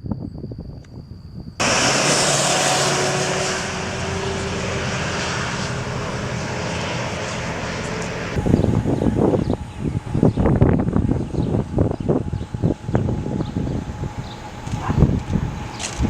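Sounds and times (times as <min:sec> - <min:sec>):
aircraft engine drone: 0:01.6 - 0:16.0.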